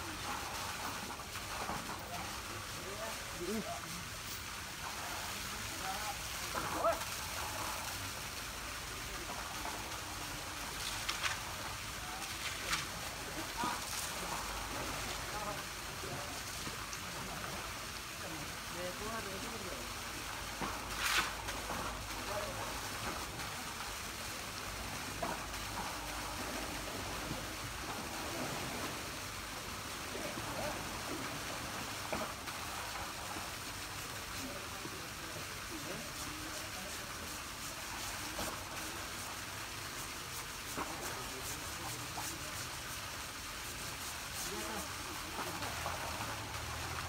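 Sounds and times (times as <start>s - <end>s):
shallow water rushing: 0.0s - 47.0s
water splashes: 0.0s - 47.0s.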